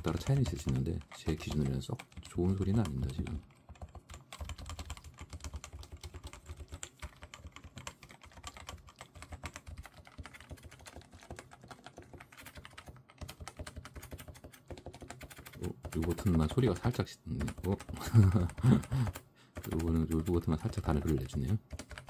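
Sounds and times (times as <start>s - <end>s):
fast keyboard typing: 0.0s - 22.0s.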